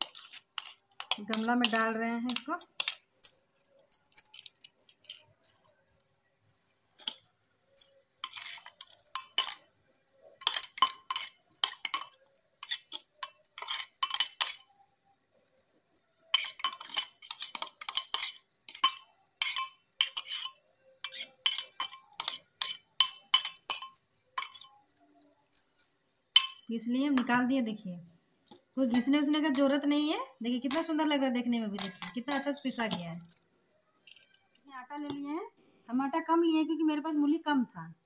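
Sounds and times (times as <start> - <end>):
metal spoon clinking and scraping: 0.0 - 27.3, 28.5 - 35.2.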